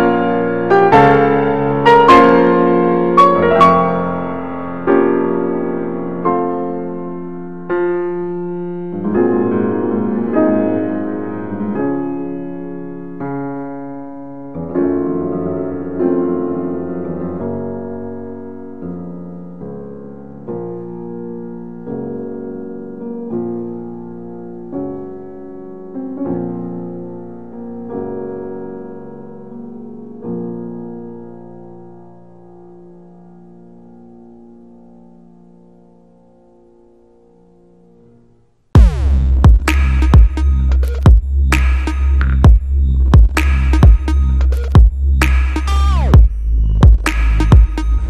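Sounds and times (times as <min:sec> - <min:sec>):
slow piano chords: 0:00.0 - 0:48.0.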